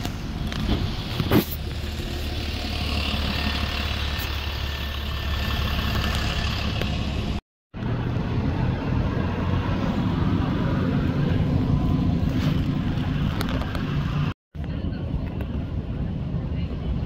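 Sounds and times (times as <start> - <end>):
bus engine rumbling: 0.0 - 17.0
street traffic: 0.0 - 17.0.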